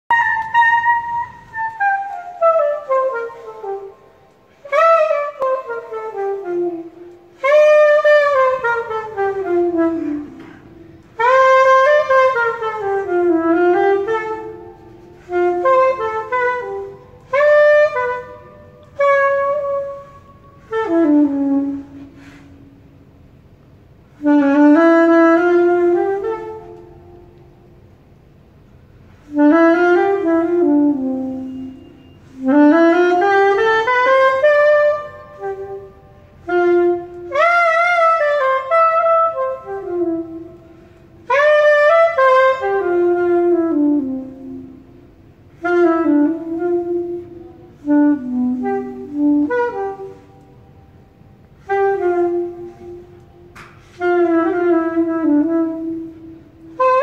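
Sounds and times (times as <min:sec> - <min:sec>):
soprano saxophone jazz phrases: 0:00.1 - 0:57.0.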